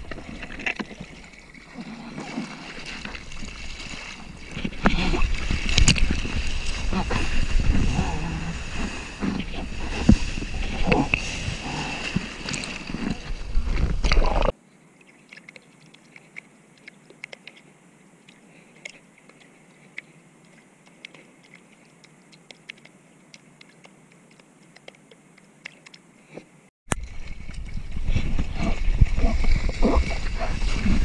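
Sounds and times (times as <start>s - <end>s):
water lapping small splashes: 0.0s - 26.4s
rushing water and wind: 0.0s - 31.0s.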